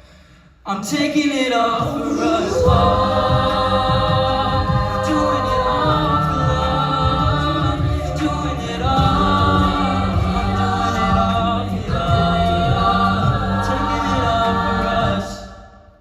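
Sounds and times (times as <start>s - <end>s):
a cappella group singing chords: 0.0s - 16.0s
low vocal bass line: 1.8s - 15.5s.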